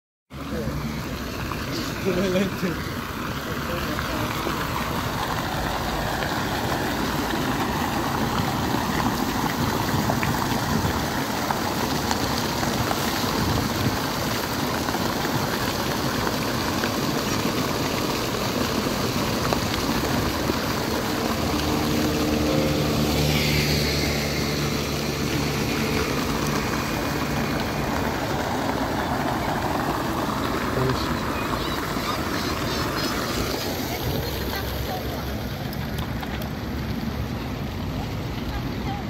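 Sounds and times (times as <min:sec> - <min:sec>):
fountain water splashing: 0:00.3 - 0:39.0
low engine hum: 0:00.3 - 0:39.0.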